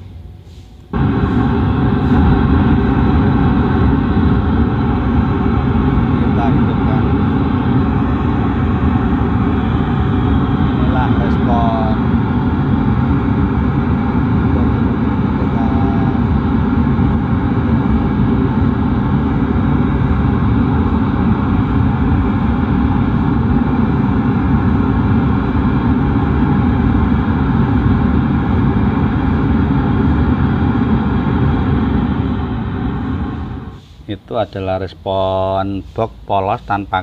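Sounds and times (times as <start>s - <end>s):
pink noise through subwoofer: 0.0s - 37.0s.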